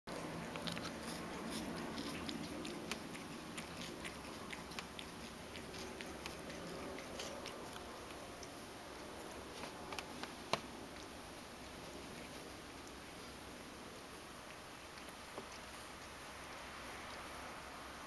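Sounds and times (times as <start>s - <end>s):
cat licking paws: 0.1s - 18.0s.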